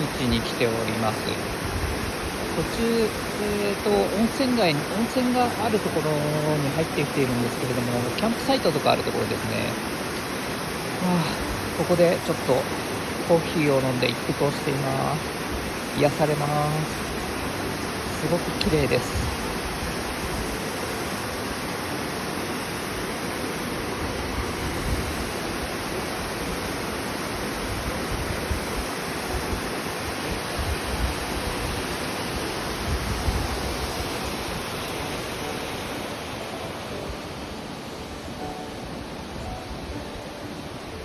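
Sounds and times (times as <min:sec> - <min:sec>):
stream babbling over rocks: 0:00.0 - 0:39.3.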